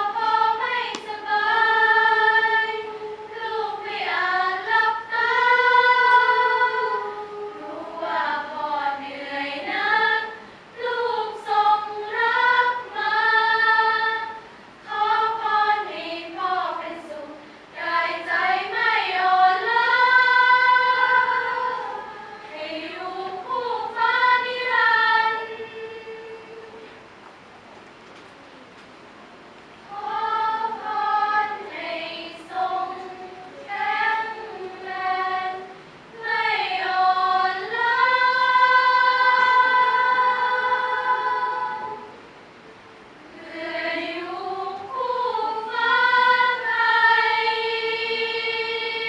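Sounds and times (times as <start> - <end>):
female choir singing in harmony: 0.0 - 27.0, 29.8 - 49.0.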